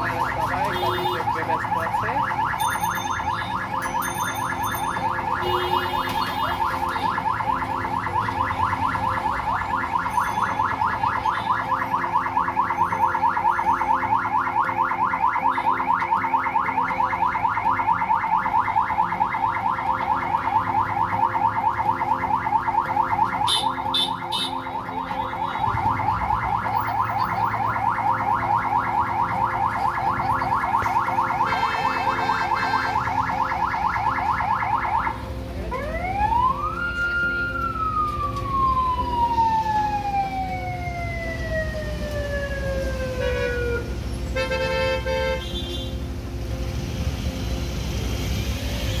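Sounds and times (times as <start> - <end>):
electronic siren yelping and wailing: 0.0 - 43.9.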